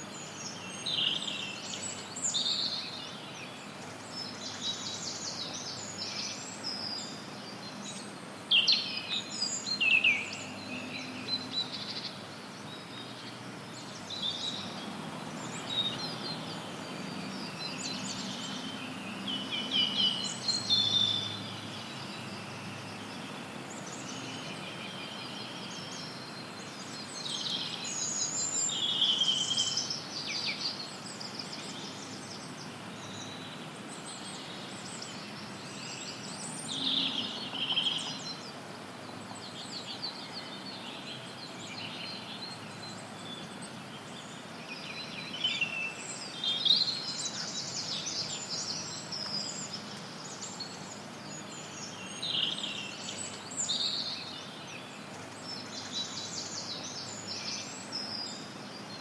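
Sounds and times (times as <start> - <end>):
birds chirping and trilling: 0.0 - 59.0
white noise hiss: 0.0 - 59.0.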